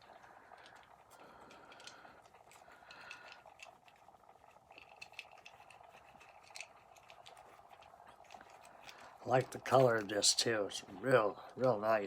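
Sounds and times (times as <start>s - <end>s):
small clicks: 0.0s - 10.2s.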